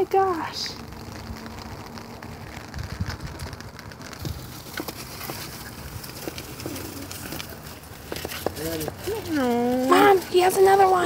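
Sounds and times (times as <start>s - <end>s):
dry grass rustling: 0.0s - 11.0s.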